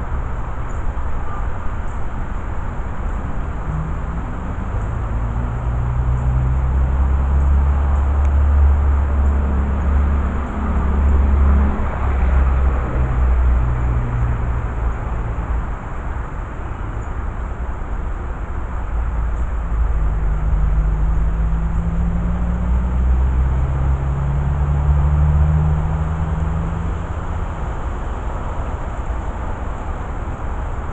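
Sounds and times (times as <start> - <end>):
heavy engine rumble: 0.0 - 30.9.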